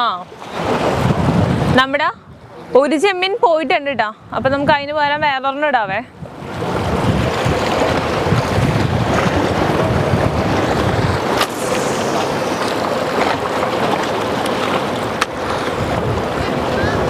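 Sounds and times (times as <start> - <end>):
sea waves against rocks: 0.0 - 3.3, 4.6 - 17.0
wind buffeting microphone: 0.3 - 17.0.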